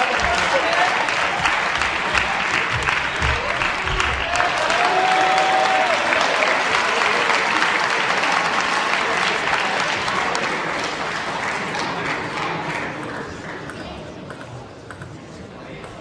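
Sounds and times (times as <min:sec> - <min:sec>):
spectators applauding: 0:00.0 - 0:13.8.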